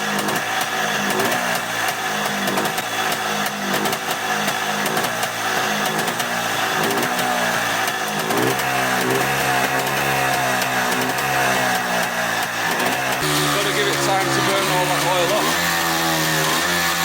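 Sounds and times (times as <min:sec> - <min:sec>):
two-stroke motorbike engine revving: 0:00.0 - 0:17.0.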